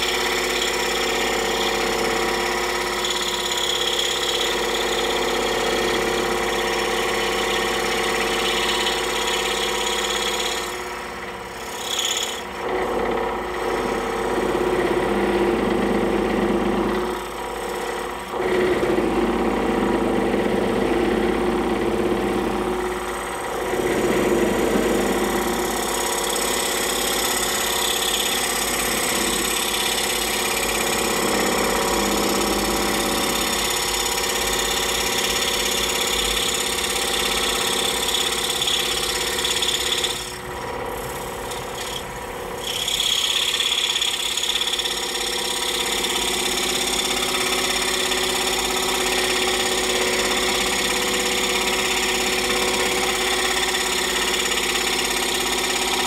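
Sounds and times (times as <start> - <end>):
scroll saw cutting wood: 0.0 - 56.0.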